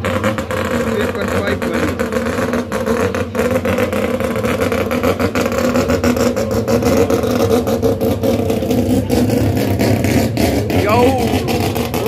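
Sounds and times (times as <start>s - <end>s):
stock car engines droning: 0.0s - 12.0s.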